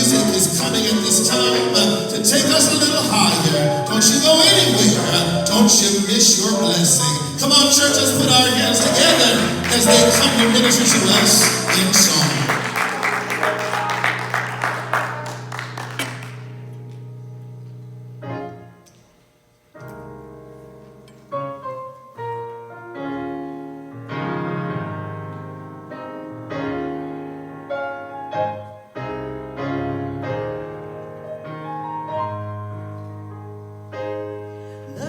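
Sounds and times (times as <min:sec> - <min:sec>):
piano keyboard sustained chords: 0:00.0 - 0:18.9, 0:19.8 - 0:35.0.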